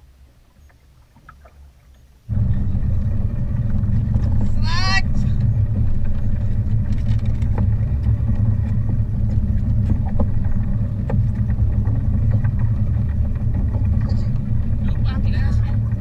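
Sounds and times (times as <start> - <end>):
outboard motor rumbling: 0.0 - 16.0.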